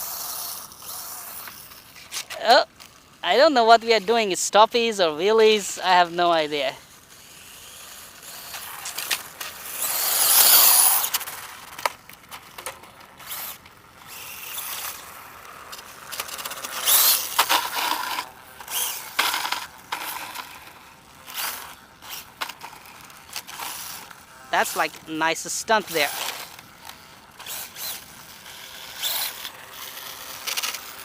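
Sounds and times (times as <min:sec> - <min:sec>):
electric toy motor spinning up: 0:00.0 - 0:31.0
toy bike clicks and rattles: 0:00.0 - 0:31.0.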